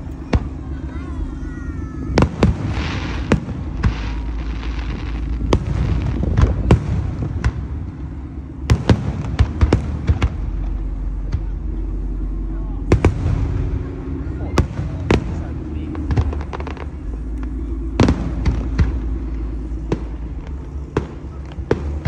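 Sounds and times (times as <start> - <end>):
fireworks bursting bangs: 0.0 - 22.0
low rumble: 0.0 - 22.0.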